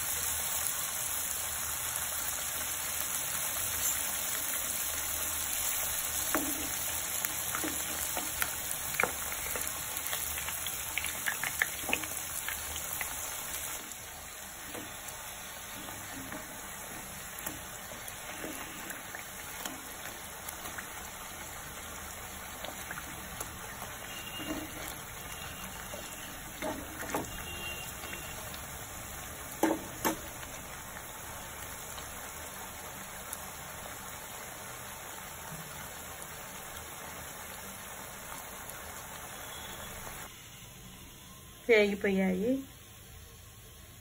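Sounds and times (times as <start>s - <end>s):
dough sizzling in hot oil: 0.0s - 44.0s.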